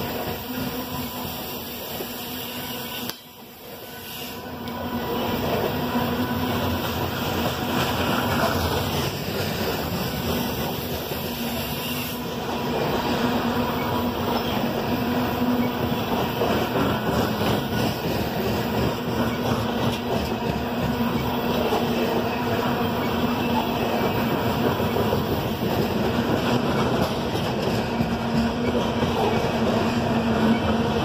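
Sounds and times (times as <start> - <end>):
steel wheels running on rails: 0.0 - 31.0.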